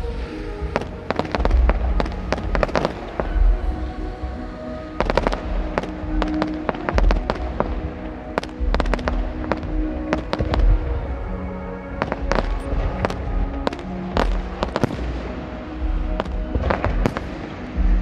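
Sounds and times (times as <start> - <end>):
deep fireworks booms: 0.0 - 11.1, 12.0 - 18.0
music playing: 0.0 - 18.0
fireworks cracking: 0.6 - 3.7, 4.4 - 11.0, 12.0 - 18.0.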